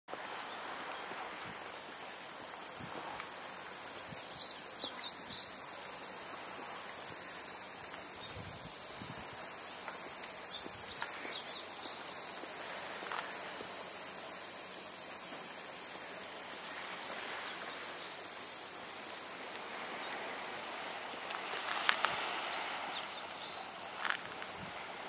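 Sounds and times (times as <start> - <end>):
insect chorus drone: 0.1 - 25.0.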